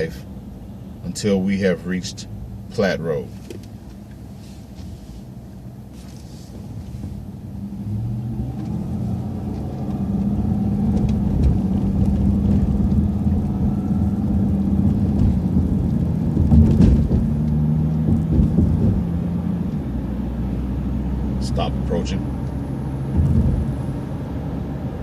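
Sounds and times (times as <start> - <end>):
bus engine accelerating: 2.1 - 25.0.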